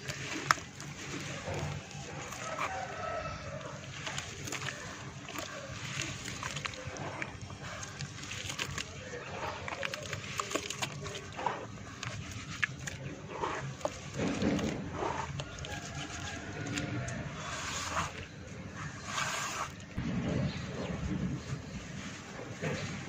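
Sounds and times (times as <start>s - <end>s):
wet dirt squelching and crackling: 0.0s - 23.0s.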